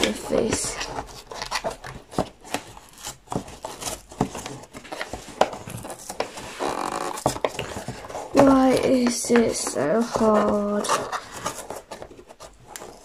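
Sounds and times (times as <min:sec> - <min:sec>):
wrapping crackling and ripping: 0:00.0 - 0:13.0
wrapping tearing rasp: 0:00.0 - 0:13.0.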